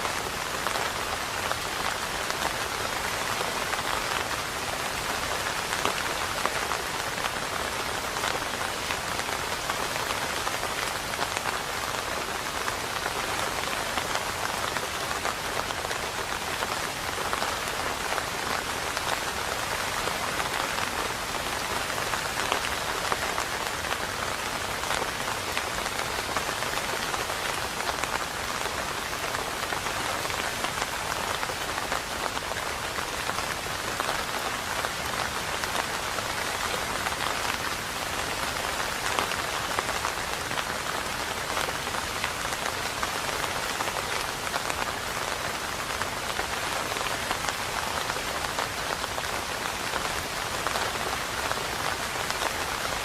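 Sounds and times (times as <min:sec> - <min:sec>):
steady rain hiss: 0:00.0 - 0:53.0
raindrops pattering: 0:00.1 - 0:53.0.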